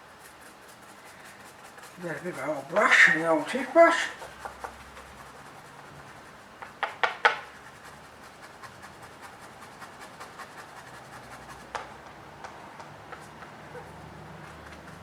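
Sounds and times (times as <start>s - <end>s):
toothbrush scratching speaker grill: 0.0s - 12.2s, 13.1s - 15.0s.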